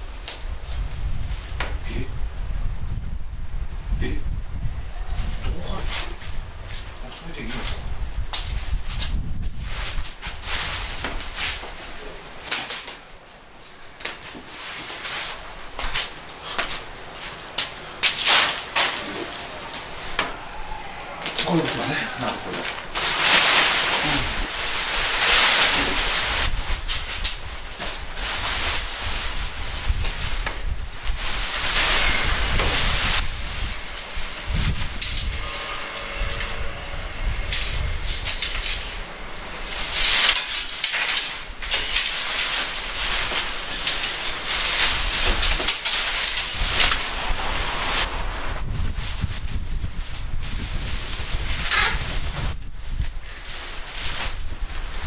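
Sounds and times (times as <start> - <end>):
tent fabric rustling: 5.2 - 35.4, 37.2 - 55.0.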